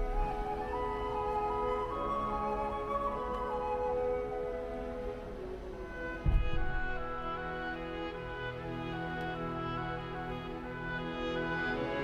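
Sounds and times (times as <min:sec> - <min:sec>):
slow orchestral music: 0:00.0 - 0:12.0.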